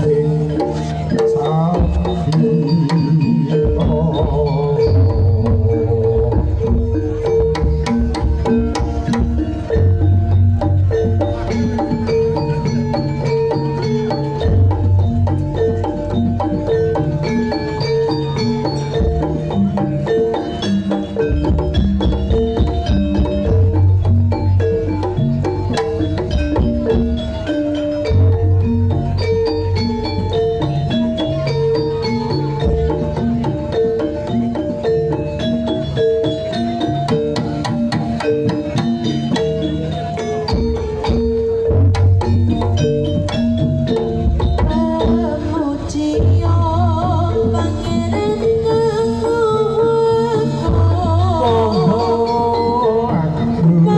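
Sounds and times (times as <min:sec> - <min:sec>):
gamelan metal mallet runs: 0:00.0 - 0:53.9
metallophones ringing: 0:00.0 - 0:53.9
sharp percussion strokes: 0:00.0 - 0:53.9.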